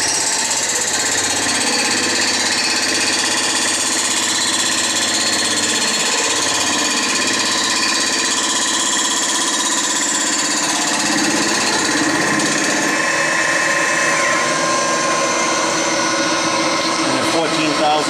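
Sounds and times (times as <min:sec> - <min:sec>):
machine drive tones: 0:00.0 - 0:18.0
milling cutter chatter on metal: 0:00.0 - 0:18.0.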